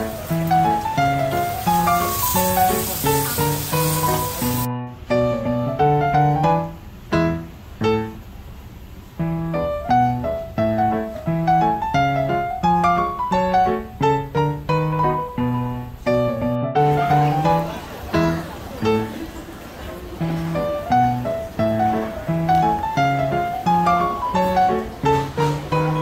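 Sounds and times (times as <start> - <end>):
piano music: 0.0 - 8.3, 9.1 - 26.0.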